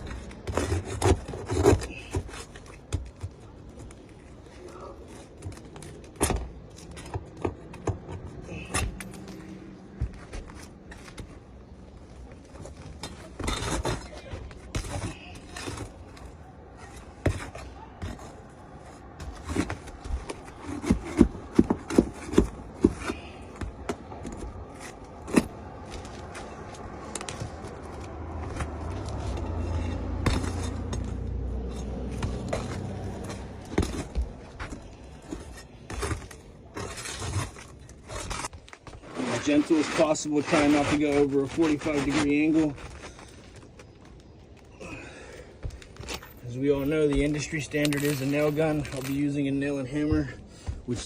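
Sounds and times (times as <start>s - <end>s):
scraping on roof shingles: 0.0s - 9.0s, 12.3s - 51.0s.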